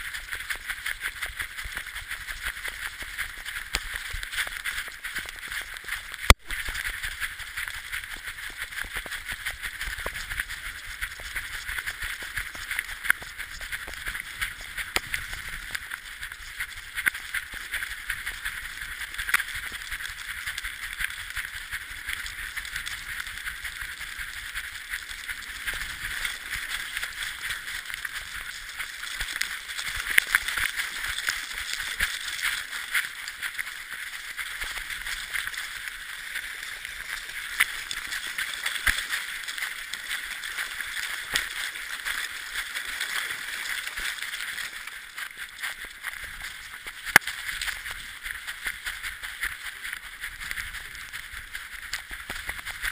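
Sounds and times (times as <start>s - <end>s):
dog paws splashing through water: 0.0s - 52.9s.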